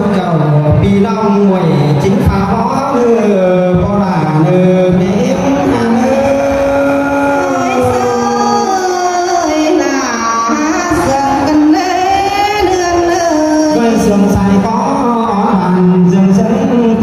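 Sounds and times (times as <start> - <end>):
amplified folk singing: 2.2 - 17.0.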